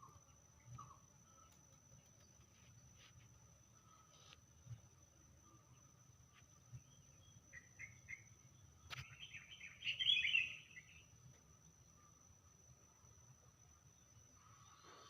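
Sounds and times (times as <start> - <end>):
songbird chirping and twittering: 0.0 - 15.0.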